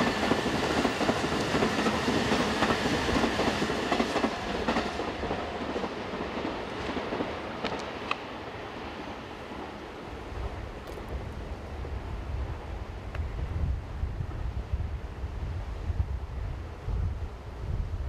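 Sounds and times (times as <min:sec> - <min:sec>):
electric train passing on rails: 0:00.0 - 0:18.0.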